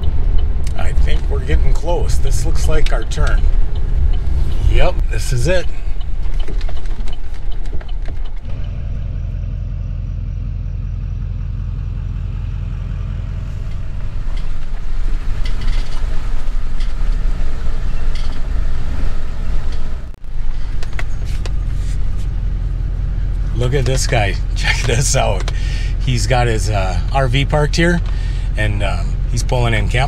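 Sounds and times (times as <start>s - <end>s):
pickup engine and road rumble: 0.0s - 30.0s.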